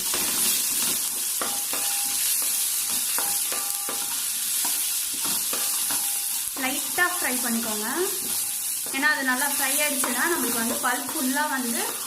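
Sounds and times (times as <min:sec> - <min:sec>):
food sizzling in hot oil: 0:00.0 - 0:12.0
spatula scraping and tapping pan: 0:00.0 - 0:12.0.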